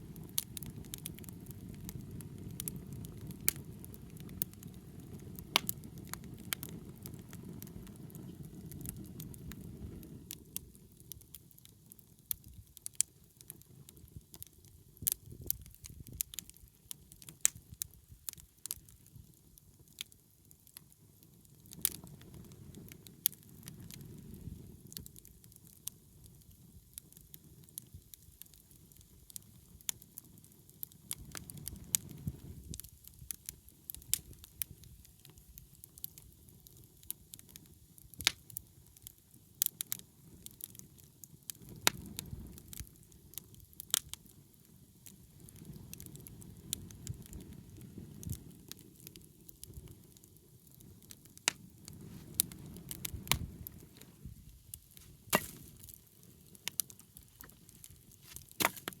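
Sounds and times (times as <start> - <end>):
bonfire crackling and popping: 0.0 - 59.0.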